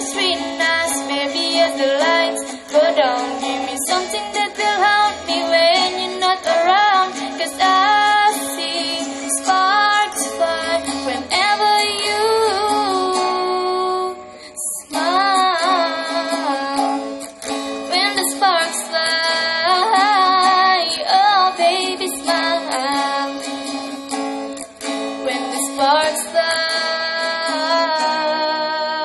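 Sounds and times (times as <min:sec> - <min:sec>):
plucked strings: 0:00.0 - 0:29.0.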